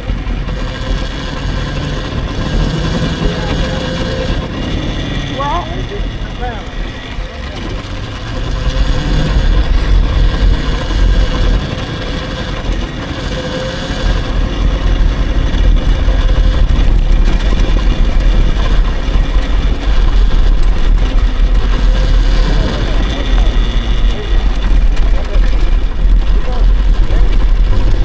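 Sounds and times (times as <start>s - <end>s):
electric motor whine: 0.0s - 28.0s
wind rumbling on microphone: 0.0s - 28.0s.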